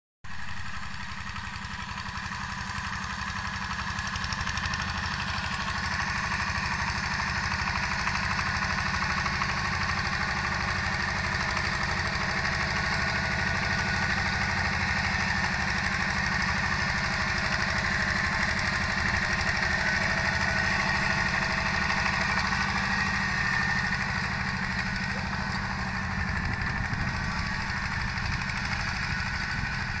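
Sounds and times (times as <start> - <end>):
diesel engine chugging: 0.3 - 30.0.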